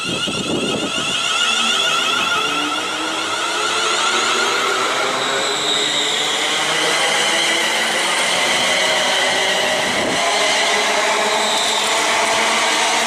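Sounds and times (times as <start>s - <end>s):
electric traction whine: 0.0s - 13.0s
train wheels on rails: 0.0s - 13.0s.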